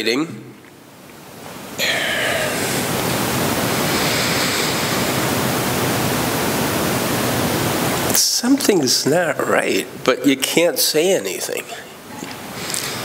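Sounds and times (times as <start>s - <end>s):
loud static hiss: 0.0s - 13.0s.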